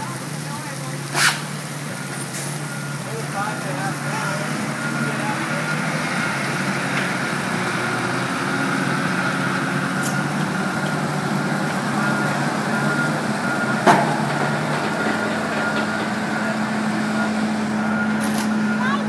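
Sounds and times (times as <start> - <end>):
forklift engine running: 0.0 - 19.0.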